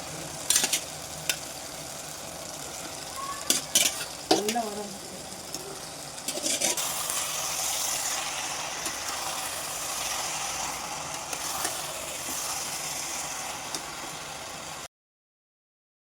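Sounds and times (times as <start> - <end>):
curry sizzling in a pan: 0.0 - 14.9.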